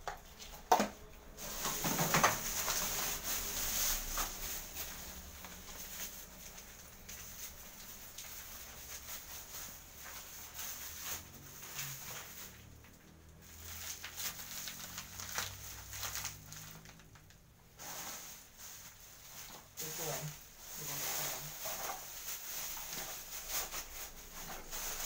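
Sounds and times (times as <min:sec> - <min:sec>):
plastic bags rustling: 0:00.2 - 0:25.0.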